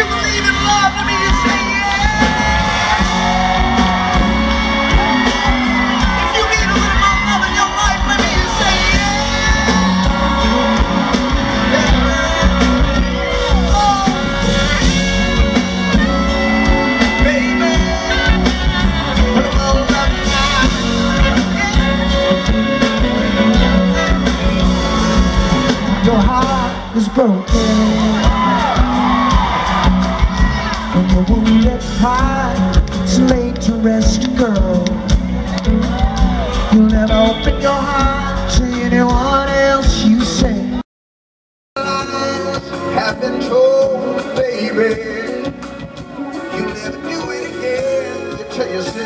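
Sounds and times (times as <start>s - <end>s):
audience screaming and whooping: 0.0s - 40.8s
live band playing: 0.0s - 40.8s, 41.8s - 49.0s.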